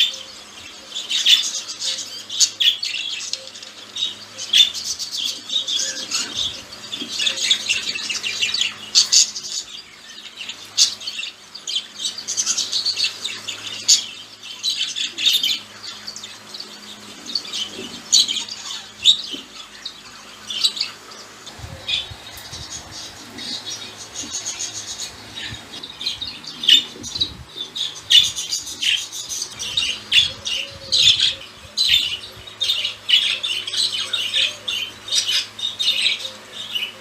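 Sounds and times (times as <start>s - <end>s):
budgerigars chattering: 0.0s - 37.0s
sharp bird calls: 0.0s - 37.0s.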